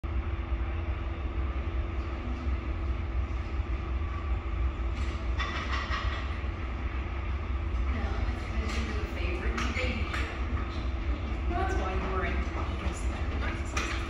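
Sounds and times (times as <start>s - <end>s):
faint constant hum: 0.0s - 14.0s
low background rumble: 0.0s - 14.0s.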